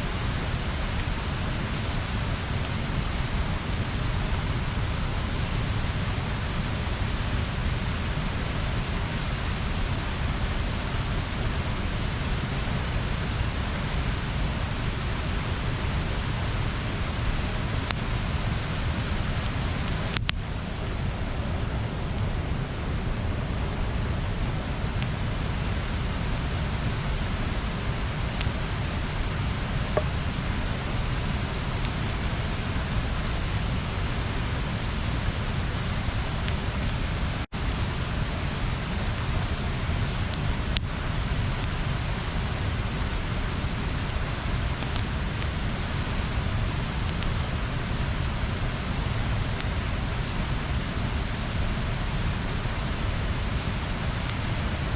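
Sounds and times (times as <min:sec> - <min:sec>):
bonfire rushing: 0:00.0 - 0:54.9
fire crackles and pops: 0:00.0 - 0:54.9.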